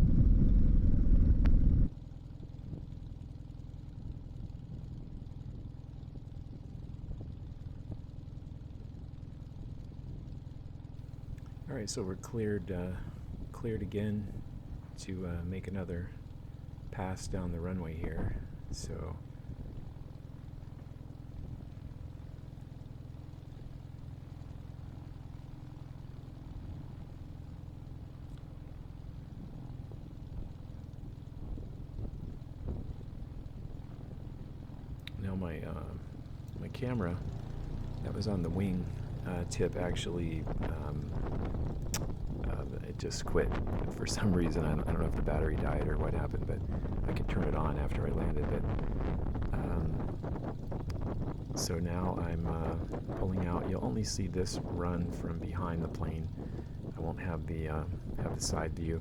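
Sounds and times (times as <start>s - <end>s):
aircraft engine idling drone: 0.0s - 59.0s.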